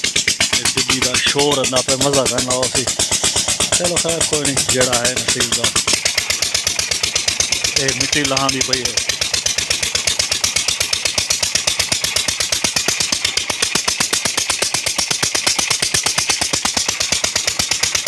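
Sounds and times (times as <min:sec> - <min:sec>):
engine running steadily: 0:00.0 - 0:18.0
water gushing from pipe: 0:00.0 - 0:18.0.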